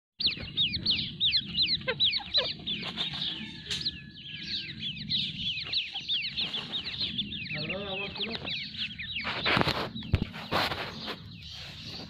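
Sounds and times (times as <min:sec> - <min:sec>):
chicks peeping: 0:00.2 - 0:12.0.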